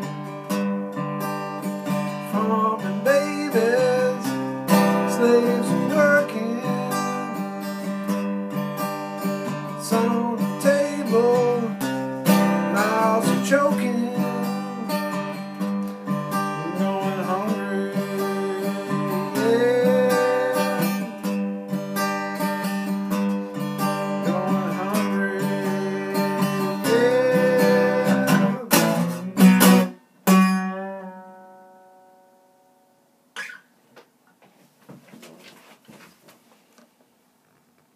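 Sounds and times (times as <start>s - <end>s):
acoustic guitar playing: 0.0s - 33.8s.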